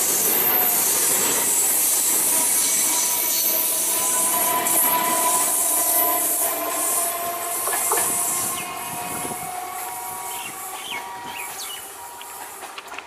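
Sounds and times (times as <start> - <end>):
train rushing noise: 0.0 - 13.0.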